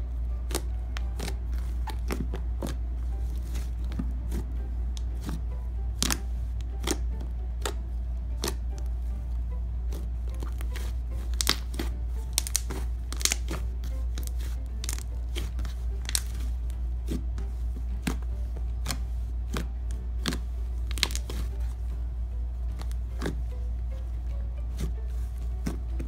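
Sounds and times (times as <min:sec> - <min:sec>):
slime crackling and popping: 0:00.0 - 0:09.0, 0:09.9 - 0:21.9, 0:22.6 - 0:23.5
low hum: 0:00.0 - 0:26.0.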